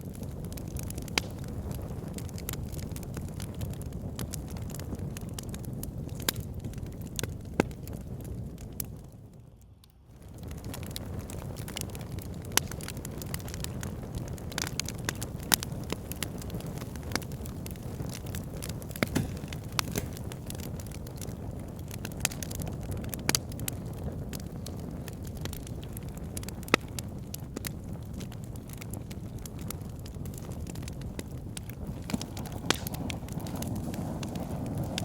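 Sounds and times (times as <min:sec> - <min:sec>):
fire pit crackling: 0:00.0 - 0:35.0.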